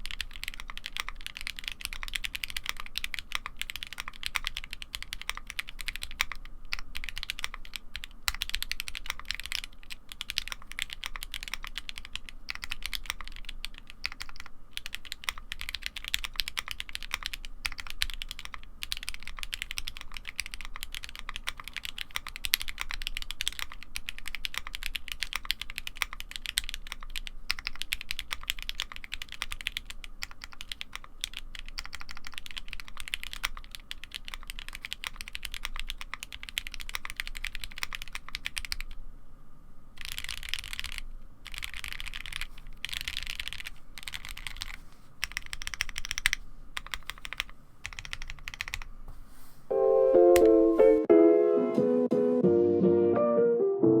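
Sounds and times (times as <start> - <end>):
mechanical keyboard typing: 0.0 - 39.0, 40.0 - 48.9.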